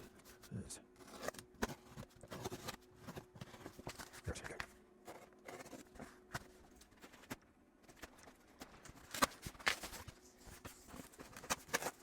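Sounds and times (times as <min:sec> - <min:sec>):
cardboard box rustling: 0:00.0 - 0:04.4, 0:05.0 - 0:12.0
cardboard crackles: 0:00.0 - 0:12.0.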